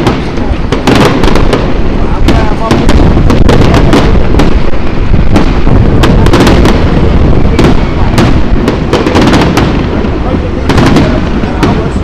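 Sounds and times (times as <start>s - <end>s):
firework shells bursting: 0.0s - 12.0s
heavy low rumble: 0.0s - 12.0s.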